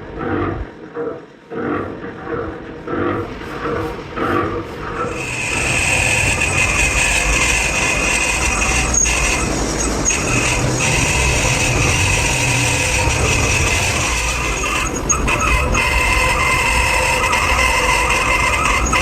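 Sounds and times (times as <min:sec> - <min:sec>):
low machine hum: 0:00.0 - 0:19.0
metalworking machine high whine: 0:00.0 - 0:19.0.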